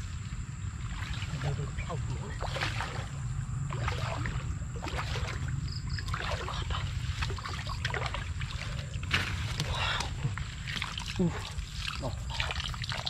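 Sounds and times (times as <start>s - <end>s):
muddy water splashing: 0.0s - 13.0s
steady low rumble: 0.0s - 13.0s.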